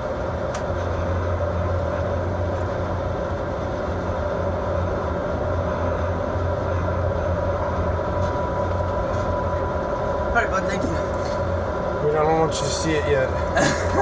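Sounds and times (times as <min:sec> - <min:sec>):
boat diesel engine drone: 0:00.0 - 0:14.0.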